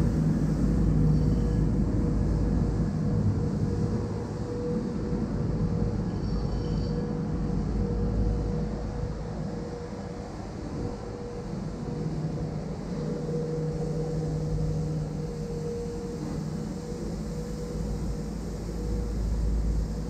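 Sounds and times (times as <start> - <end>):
city street background noise: 0.0 - 20.0.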